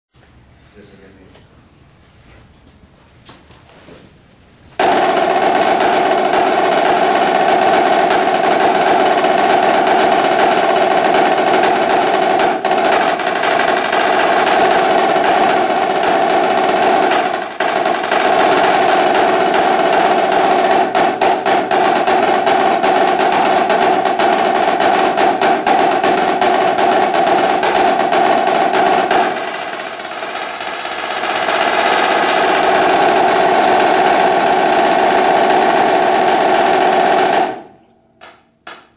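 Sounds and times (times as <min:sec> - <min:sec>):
snare drum rolls: 0:04.8 - 0:38.9.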